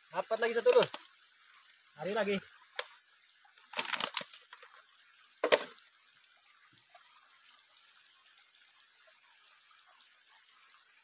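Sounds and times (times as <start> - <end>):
stream trickling: 0.0 - 11.0.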